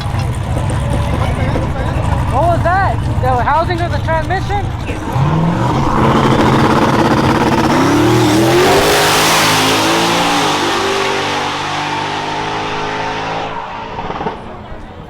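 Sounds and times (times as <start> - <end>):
race engine accelerating: 0.0 - 15.0.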